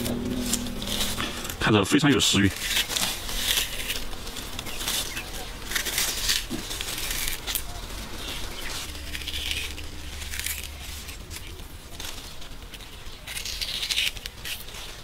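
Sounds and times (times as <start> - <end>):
metal scoop crunching fruit: 0.0 - 15.0.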